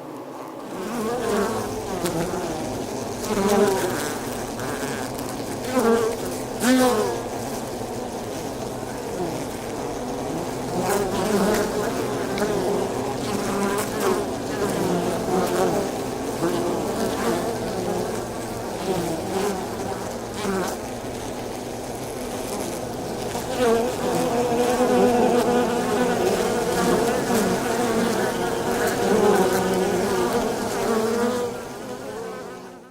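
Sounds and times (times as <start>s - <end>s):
bees buzzing: 0.0s - 32.9s.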